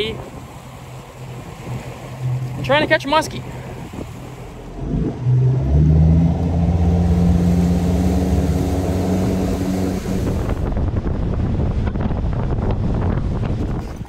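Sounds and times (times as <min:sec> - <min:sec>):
outboard motor revving: 0:00.0 - 0:11.7.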